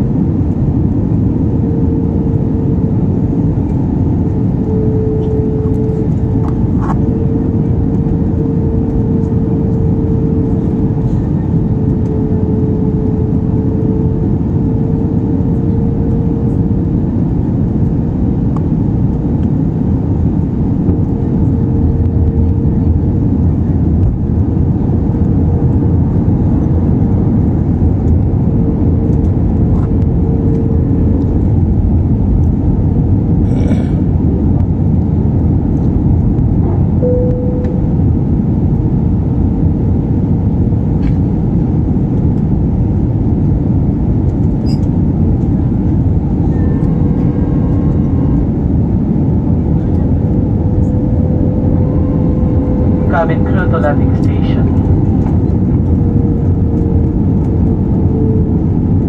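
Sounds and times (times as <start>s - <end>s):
engine and airflow rush: 0.0s - 59.0s
steady humming tone: 0.0s - 59.0s.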